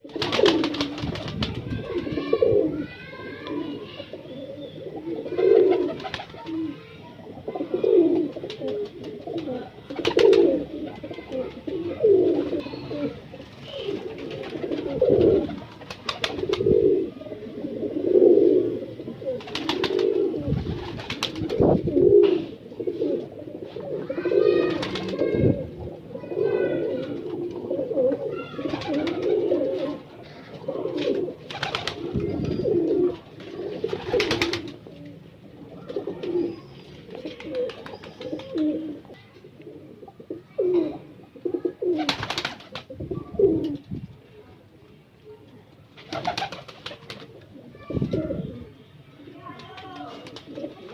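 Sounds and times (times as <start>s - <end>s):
pigeons cooing: 0.0s - 43.8s, 46.0s - 50.9s
higher stacked pigeon calls: 0.0s - 43.9s, 46.0s - 50.9s.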